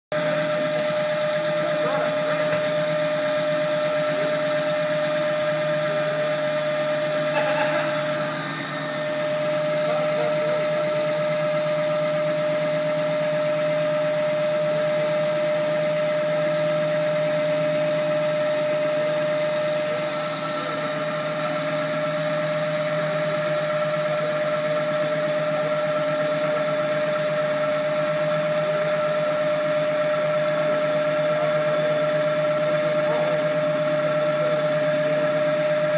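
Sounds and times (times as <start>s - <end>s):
lathe whining: 0.2s - 35.9s.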